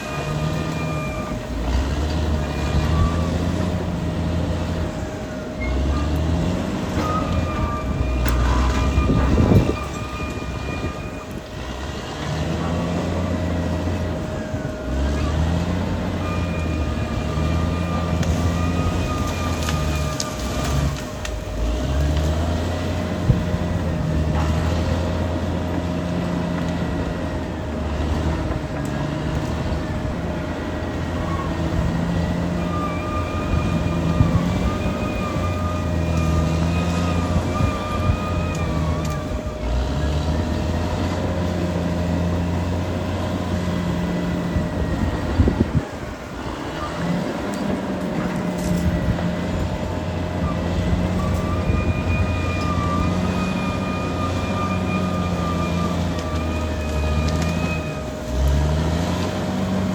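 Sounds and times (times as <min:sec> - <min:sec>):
bulldozer engine droning under load: 0:00.0 - 0:59.9
wavering squeal: 0:00.0 - 0:59.9.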